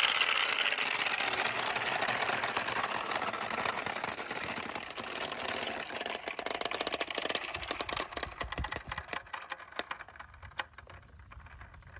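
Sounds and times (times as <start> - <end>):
plastic balls clicking together: 0.0 - 11.9.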